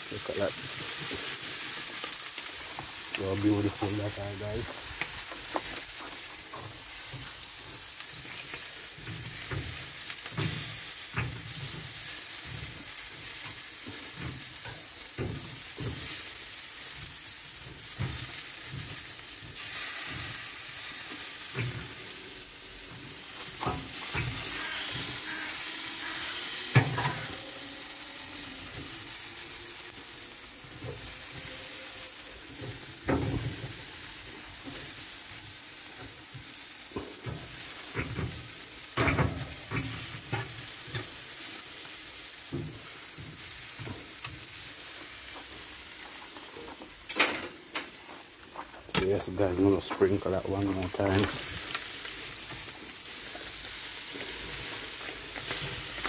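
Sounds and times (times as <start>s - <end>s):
chicken sizzling on grill: 0.0s - 56.0s.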